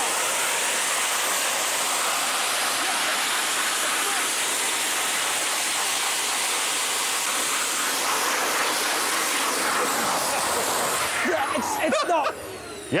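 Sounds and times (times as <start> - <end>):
jet engine rushing hiss: 0.0 - 13.0.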